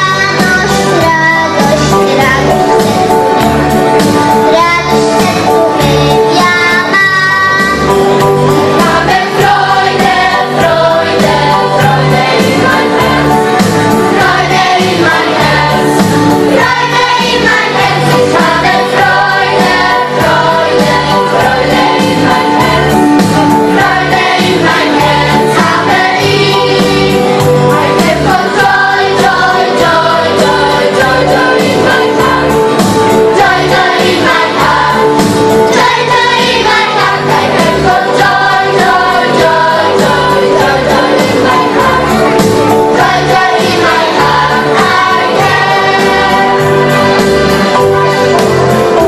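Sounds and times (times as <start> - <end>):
children's choir singing: 0.0 - 49.0
instrumental accompaniment with bass line: 0.0 - 49.0.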